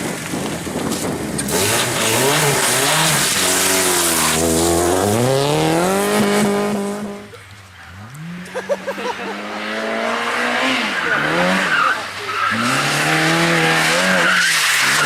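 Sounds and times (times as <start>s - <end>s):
car engine revving hard: 1.4s - 7.3s, 8.0s - 15.0s.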